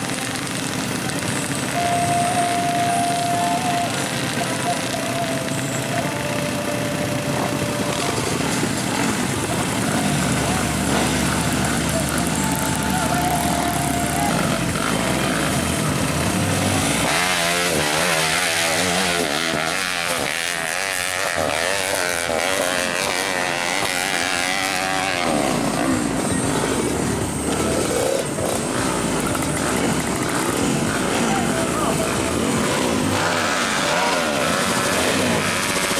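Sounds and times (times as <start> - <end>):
dirt bike engines running: 0.0 - 35.9
dirt bike revving hard: 0.0 - 35.9.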